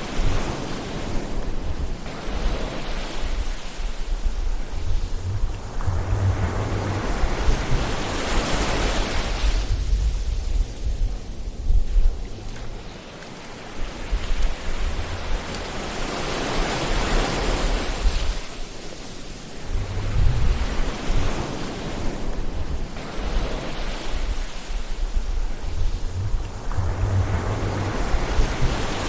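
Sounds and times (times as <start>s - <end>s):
wave breaking: 0.0s - 10.1s, 12.4s - 29.0s
low rumble of surf: 0.0s - 29.0s
ocean waves washing in: 0.0s - 29.0s.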